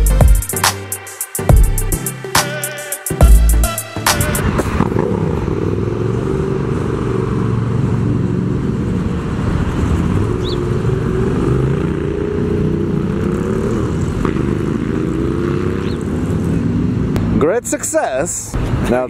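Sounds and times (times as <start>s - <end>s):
motorcycle engine revving: 1.6s - 17.6s.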